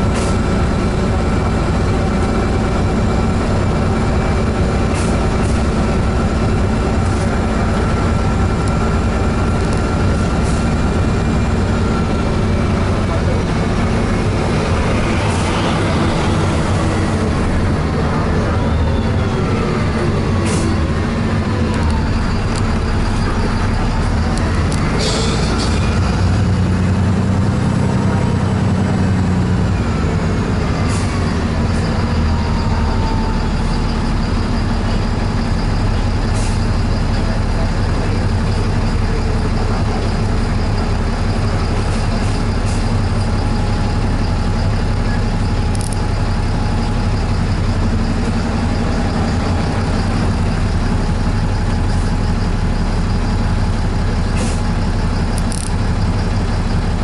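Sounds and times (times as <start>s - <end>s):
engine hum: 0.0s - 57.0s
road traffic noise: 0.0s - 57.0s.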